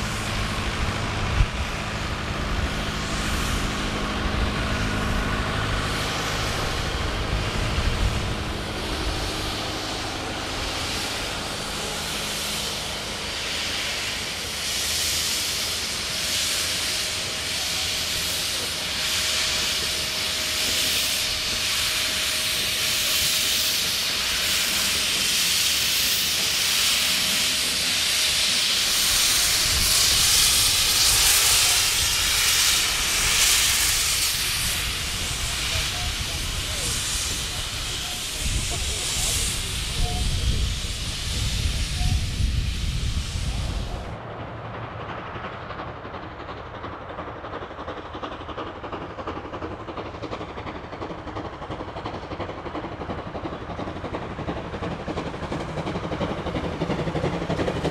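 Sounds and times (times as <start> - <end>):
steam locomotive hissing steam: 0.0 - 57.9
train running rumble: 0.0 - 57.9.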